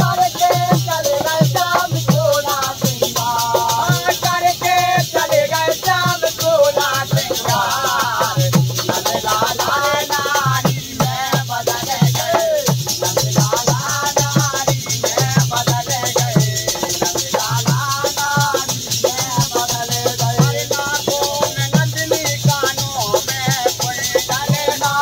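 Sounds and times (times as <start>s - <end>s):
jingling hand percussion: 0.0s - 25.0s
man singing: 0.0s - 25.0s.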